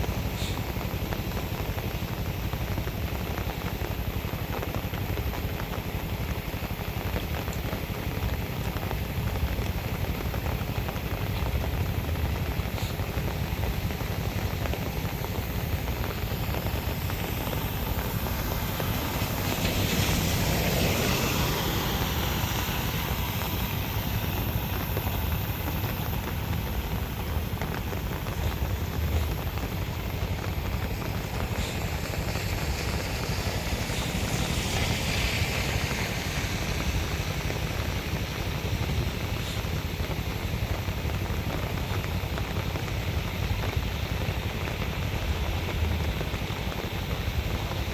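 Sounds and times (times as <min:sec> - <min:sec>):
rain: 0:00.0 - 0:47.9
water flowing in street: 0:00.0 - 0:47.9.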